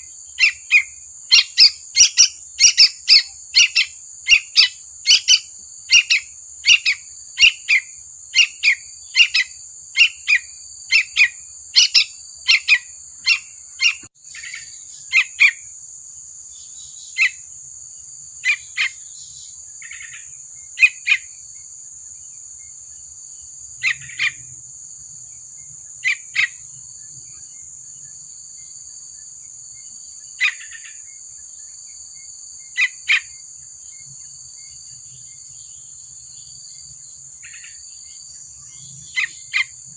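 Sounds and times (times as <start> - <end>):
bird chirping: 0.0 - 15.8, 16.4 - 39.9.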